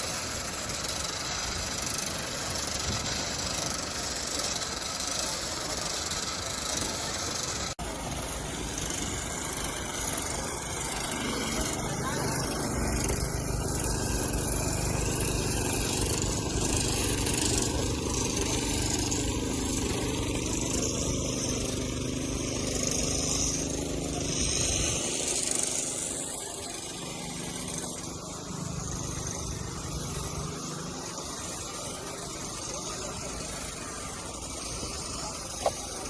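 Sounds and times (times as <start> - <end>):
engine humming: 0.0 - 36.0
outdoor noise: 0.0 - 36.0.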